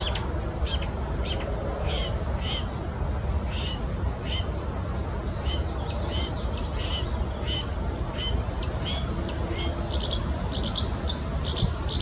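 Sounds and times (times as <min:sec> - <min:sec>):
warbler singing chirped notes: 0:00.0 - 0:12.0.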